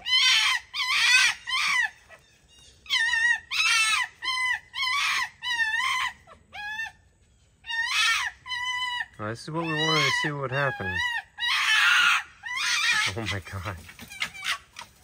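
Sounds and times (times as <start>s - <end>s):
foxes screaming: 0.0s - 15.0s.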